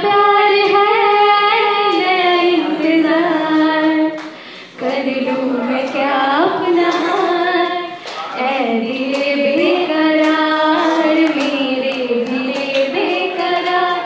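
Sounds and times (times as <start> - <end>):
women singing: 0.0 - 14.0.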